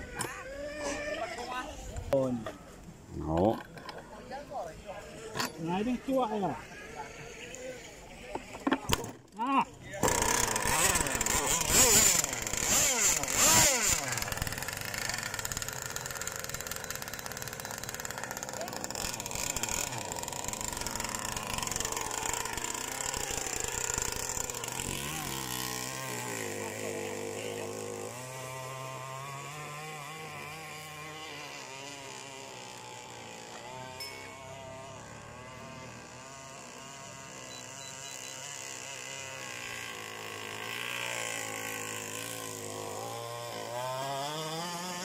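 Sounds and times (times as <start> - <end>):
small model boat engine revving: 0.0 - 1.9, 5.1 - 8.8, 10.0 - 45.0.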